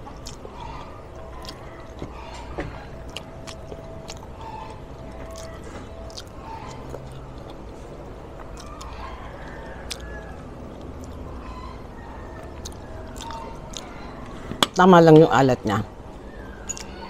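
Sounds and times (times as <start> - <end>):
person chewing food: 0.0 - 14.7, 16.1 - 17.0.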